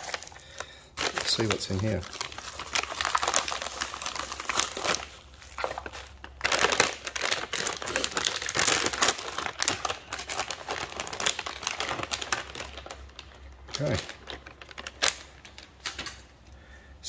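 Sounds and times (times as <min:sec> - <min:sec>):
plastic packaging crinkling: 0:00.0 - 0:16.4.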